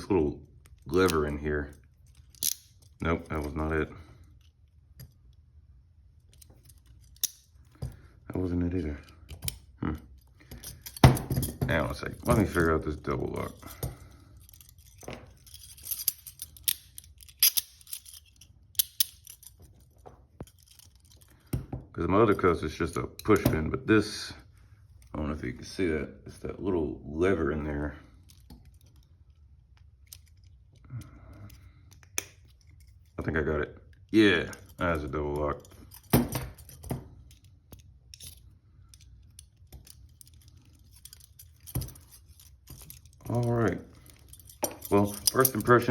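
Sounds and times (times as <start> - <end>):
handcuffs clicking and scraping: 0.4 - 5.4, 6.0 - 23.7, 24.4 - 25.9, 27.8 - 45.9.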